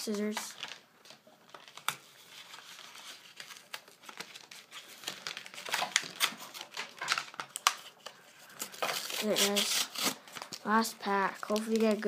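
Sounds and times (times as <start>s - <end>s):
plastic packaging crinkling: 0.1s - 12.0s.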